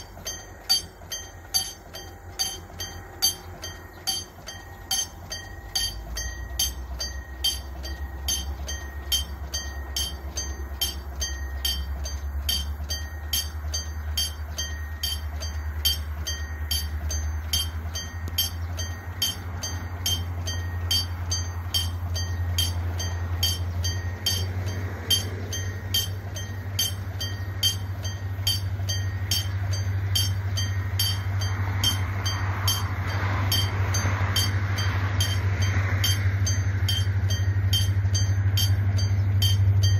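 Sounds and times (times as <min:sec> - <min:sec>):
level crossing warning bell: 0:00.0 - 0:39.9
train rumble: 0:00.0 - 0:39.9.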